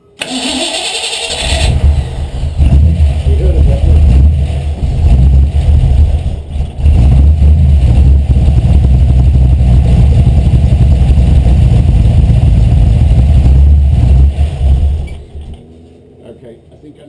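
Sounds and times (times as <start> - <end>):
engine with deep exhaust note: 1.3 - 16.1.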